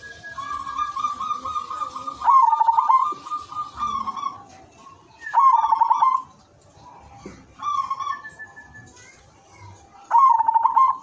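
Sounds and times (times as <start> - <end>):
dove cooing: 0.0 - 6.5, 7.4 - 8.8, 10.0 - 11.0.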